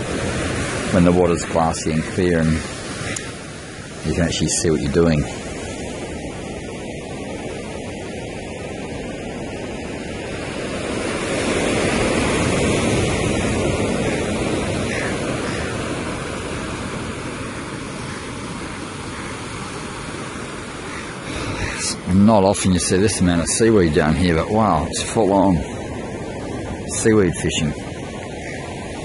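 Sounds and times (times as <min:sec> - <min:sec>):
sea waves washing against shore: 0:00.0 - 0:29.0.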